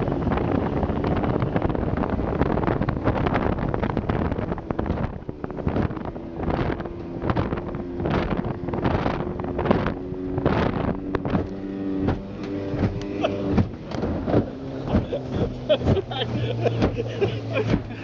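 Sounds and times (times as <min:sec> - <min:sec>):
outboard motor running: 0:00.0 - 0:18.0
wind on microphone: 0:00.0 - 0:18.0
hull slapping through water: 0:02.8 - 0:18.0.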